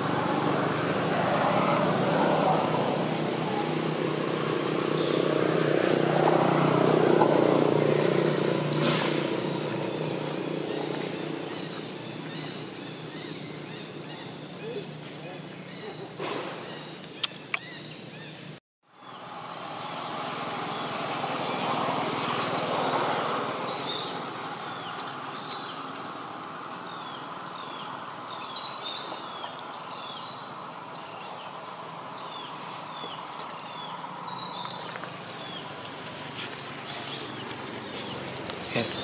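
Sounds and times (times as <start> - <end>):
bird chirping: 3.5 - 19.4, 20.0 - 39.0.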